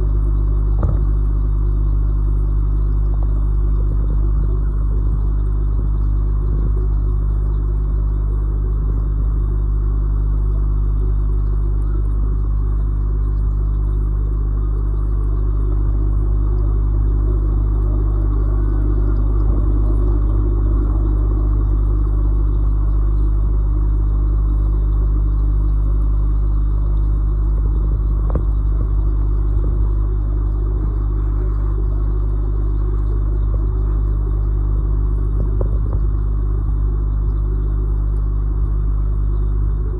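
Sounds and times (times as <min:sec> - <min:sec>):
aquarium equipment humming: 0:00.0 - 0:39.9.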